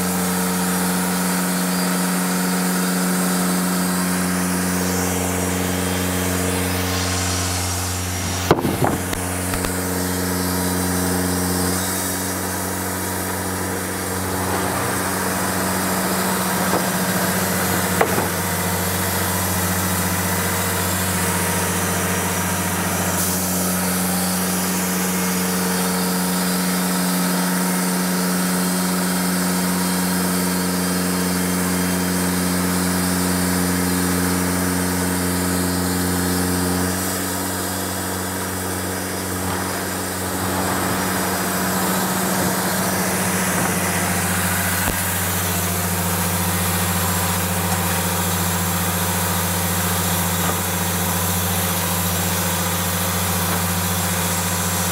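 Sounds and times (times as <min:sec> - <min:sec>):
sawmill engine running: 0:00.0 - 0:54.9
band blade cutting wood: 0:01.7 - 0:27.9, 0:35.5 - 0:54.4.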